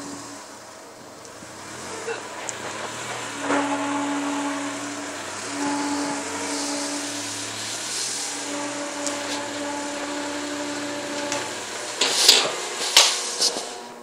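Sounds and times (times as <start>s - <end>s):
car whining hum: 0.0s - 14.0s
harsh bursts of car noise: 0.0s - 14.0s.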